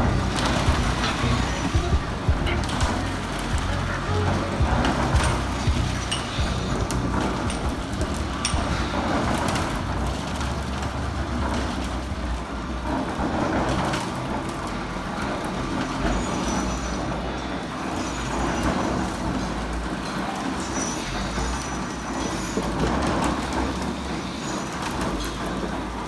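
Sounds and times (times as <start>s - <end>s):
road noise: 0.0s - 26.0s
vehicle rumbling in motion: 0.0s - 26.0s.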